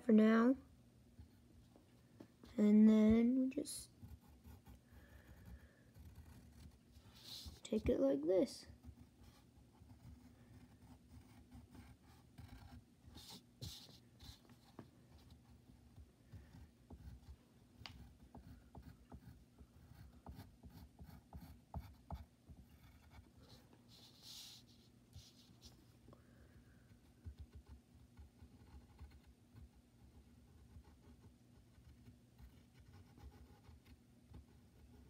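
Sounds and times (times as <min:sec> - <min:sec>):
pencil scratching on paper: 0:03.8 - 0:07.9, 0:08.6 - 0:17.4, 0:18.0 - 0:25.7, 0:26.9 - 0:35.0.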